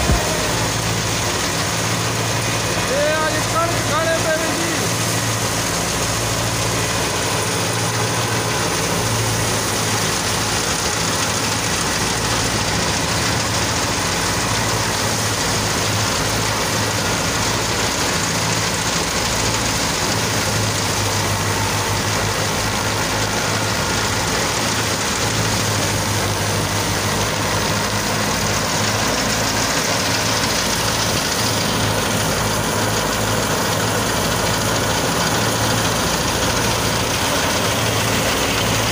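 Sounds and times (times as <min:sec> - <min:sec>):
thresher rushing noise: 0:00.0 - 0:38.9
tractor diesel engine humming: 0:00.0 - 0:38.9.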